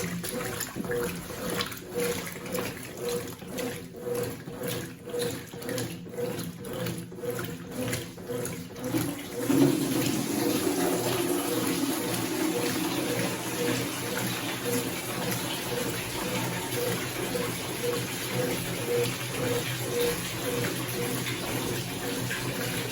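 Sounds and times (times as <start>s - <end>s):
washing machine water sloshing: 0.0s - 22.9s.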